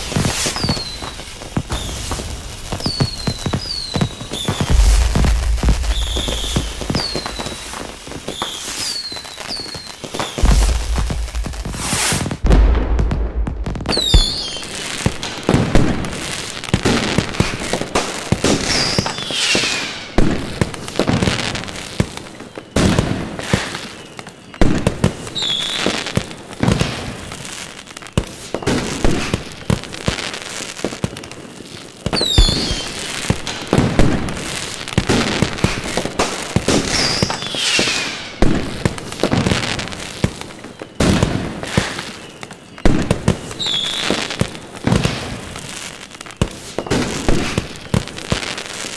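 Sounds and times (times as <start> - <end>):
fireworks whistles falling in pitch: 0.0 - 30.2, 30.9 - 48.9
fireworks bangs and crackling: 0.0 - 48.9.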